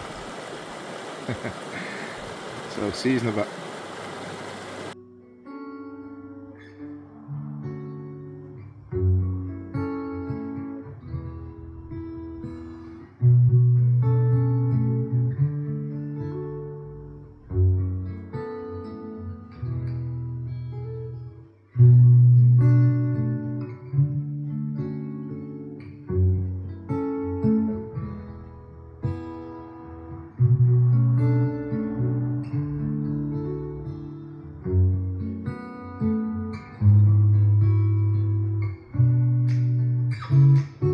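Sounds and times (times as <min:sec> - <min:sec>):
plucked guitar chords: 0:05.0 - 0:40.9.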